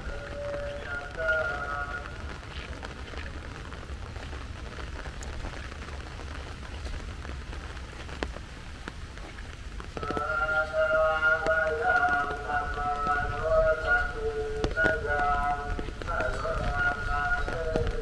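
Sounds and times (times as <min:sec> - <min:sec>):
rain on hard surfaces: 0:00.0 - 0:18.0
sharp rain drop ticks: 0:00.0 - 0:18.0.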